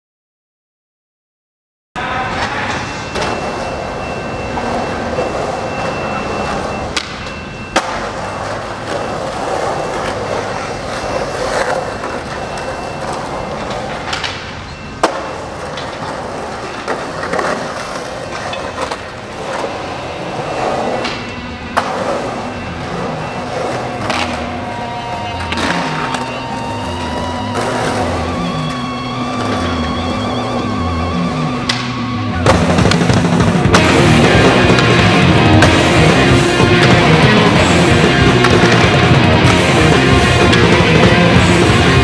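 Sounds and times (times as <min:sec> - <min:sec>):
skateboard wheels rolling on concrete: 0:02.0 - 0:42.0
skateboard clacking on ground: 0:02.2 - 0:30.8, 0:31.6 - 0:42.0.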